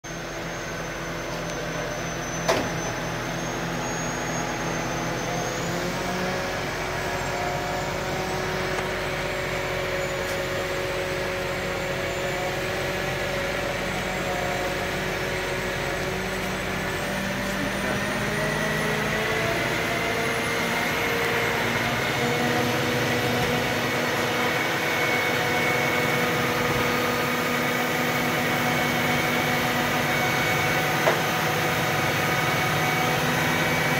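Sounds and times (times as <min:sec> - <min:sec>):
crane engine running: 0:00.0 - 0:33.9.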